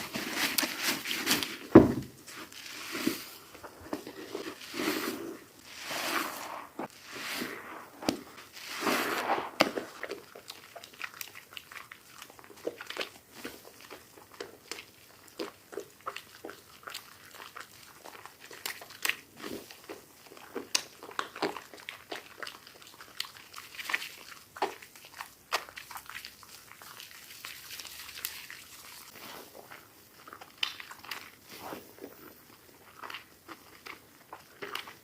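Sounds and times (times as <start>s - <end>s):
soap crunching and crackling: 0.0s - 35.0s.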